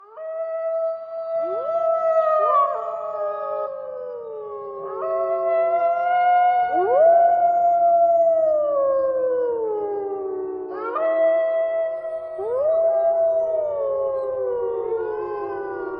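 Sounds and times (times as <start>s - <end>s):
wolves howling in chorus: 0.1s - 15.9s.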